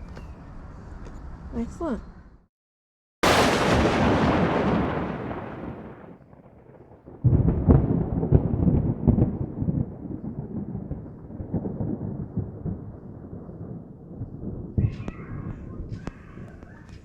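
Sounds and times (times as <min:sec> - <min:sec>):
low rumble with crackles: 0:03.3 - 0:17.0.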